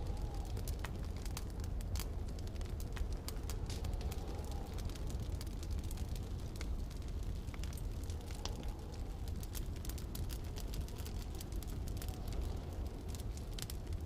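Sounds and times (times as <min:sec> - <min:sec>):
wind rumbling: 0:00.0 - 0:14.0
wood fire crackling: 0:00.0 - 0:14.0.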